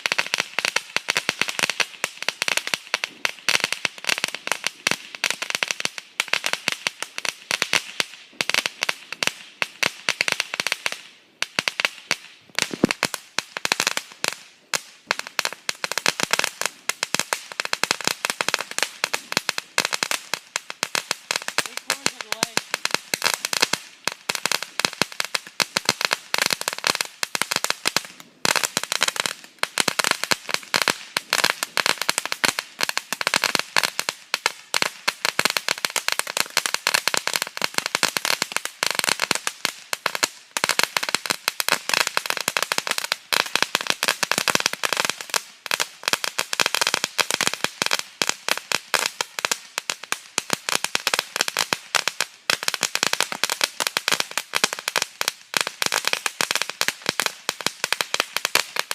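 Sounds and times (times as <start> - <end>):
firework crackling: 0.0 - 58.9.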